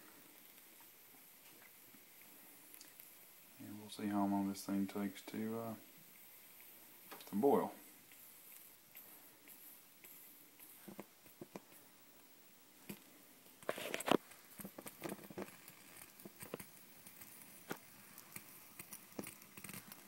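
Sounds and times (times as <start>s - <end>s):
alcohol stove jets burning: 0.0s - 20.0s
faint clicks and crackles: 0.0s - 20.0s.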